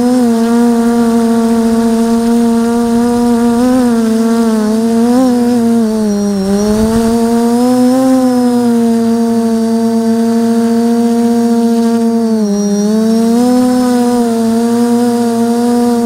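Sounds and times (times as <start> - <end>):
quadcopter motors humming: 0.0 - 16.0.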